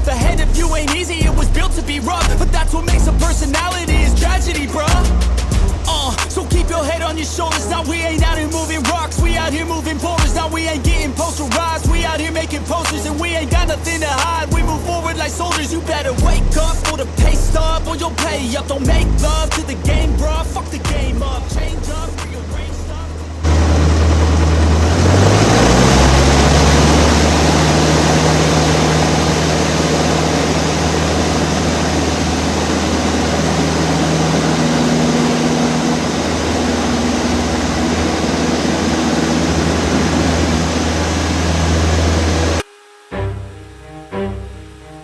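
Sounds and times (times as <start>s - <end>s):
light aircraft engine and propeller: 0.0s - 45.0s.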